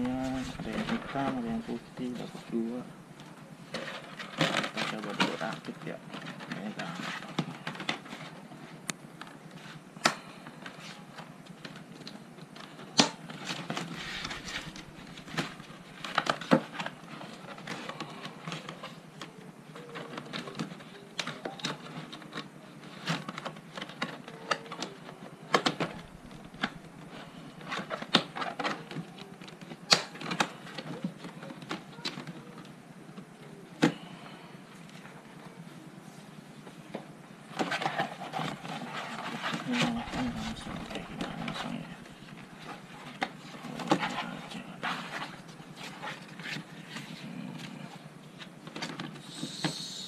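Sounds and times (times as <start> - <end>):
panels rustling and scraping: 0.0 - 49.8.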